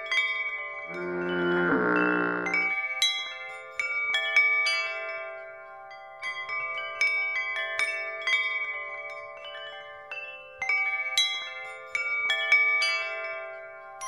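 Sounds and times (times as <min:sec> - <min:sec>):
chimes ringing: 0:00.0 - 0:13.6.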